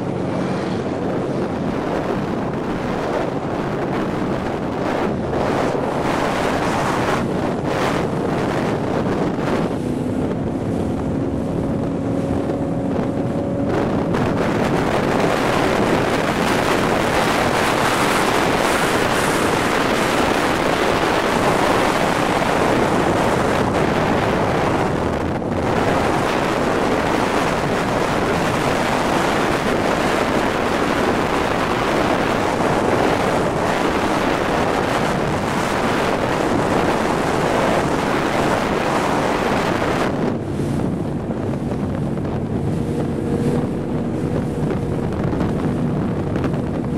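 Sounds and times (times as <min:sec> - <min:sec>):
boat engine: 0:00.0 - 0:46.9
rushing water: 0:00.0 - 0:46.9
wind rush on microphone: 0:00.0 - 0:46.9.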